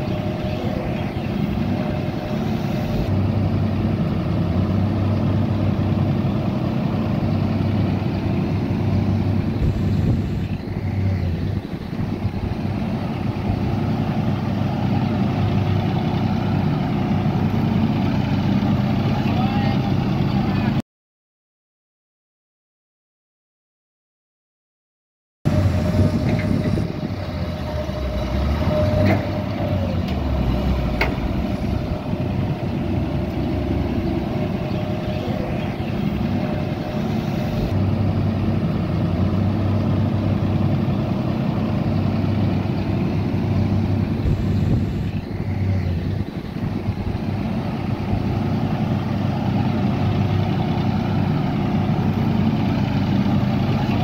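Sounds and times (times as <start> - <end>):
excavator diesel engine running: 0.0 - 20.8, 25.5 - 54.0.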